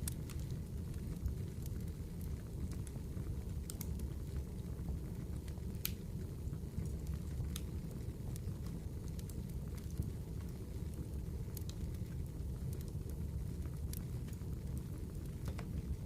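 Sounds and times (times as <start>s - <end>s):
campfire flames rushing: 0.0s - 16.0s
fire crackling and popping: 0.0s - 16.0s.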